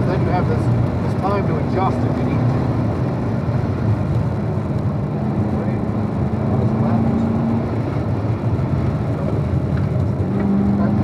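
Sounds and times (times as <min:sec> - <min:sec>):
car engine droning: 0:00.0 - 0:11.0
tyre and road noise: 0:00.0 - 0:11.0.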